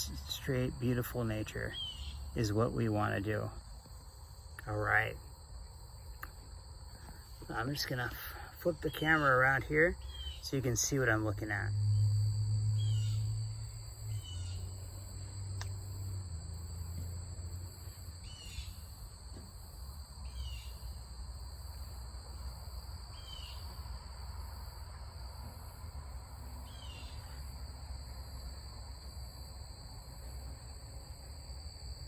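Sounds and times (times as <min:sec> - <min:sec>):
insect chorus: 0:00.0 - 0:32.0.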